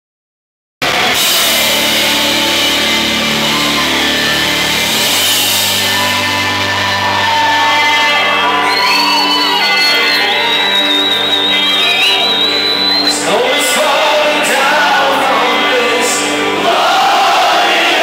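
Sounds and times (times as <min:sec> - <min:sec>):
heavy metal band playing live: 0:00.8 - 0:18.0.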